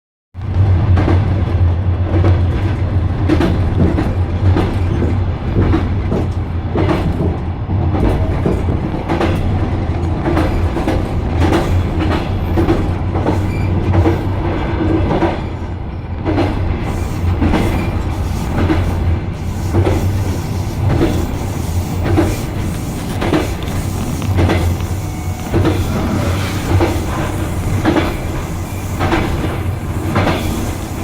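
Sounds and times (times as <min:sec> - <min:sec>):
low rumble of train carriage: 0:00.4 - 0:31.0
train wheels clacking over rail joints: 0:00.5 - 0:15.6, 0:16.2 - 0:31.0.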